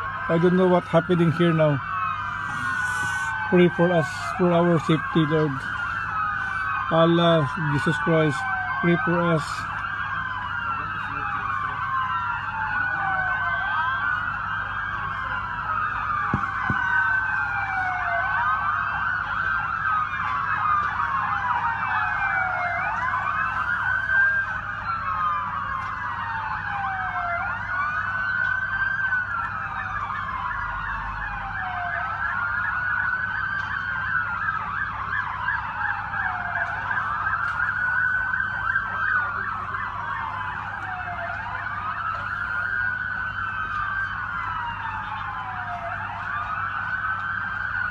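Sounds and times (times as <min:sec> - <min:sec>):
emergency sirens wailing: 0:00.0 - 0:47.9.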